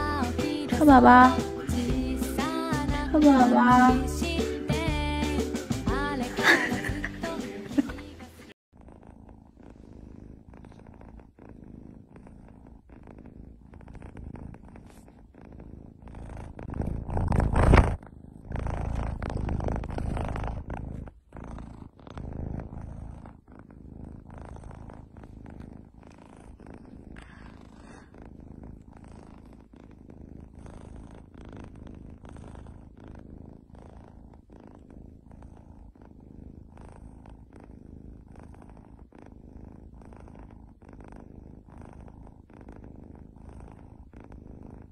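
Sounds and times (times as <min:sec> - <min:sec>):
kitten purring: 0:00.0 - 0:44.9.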